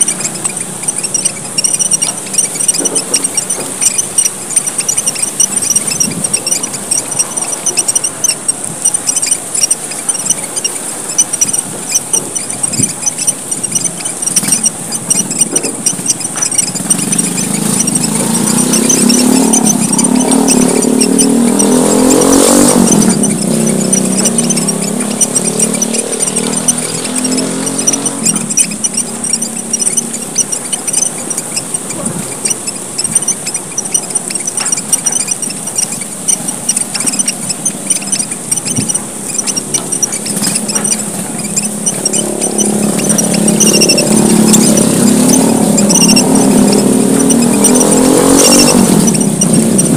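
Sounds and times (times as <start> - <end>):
finches chirping: 0.0 - 49.9
vehicle engine: 0.0 - 49.9.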